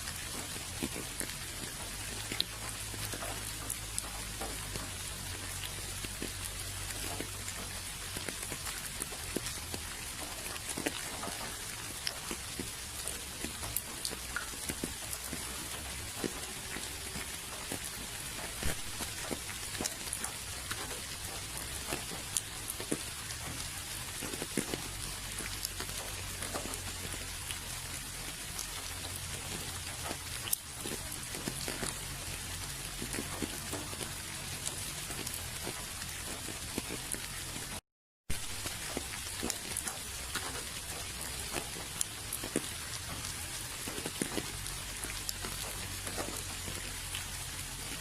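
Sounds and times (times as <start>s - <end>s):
rain drops pattering: 0.0s - 48.0s.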